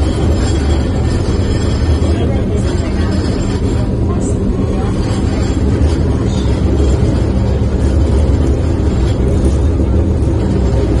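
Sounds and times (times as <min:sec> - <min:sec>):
bus interior rumble and hum: 0:00.0 - 0:11.0.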